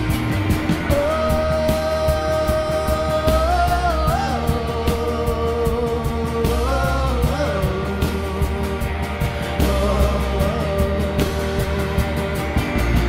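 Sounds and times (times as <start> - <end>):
bass guitar: 0.0 - 13.0
drum kit: 0.0 - 13.0
electric guitars: 0.0 - 13.0.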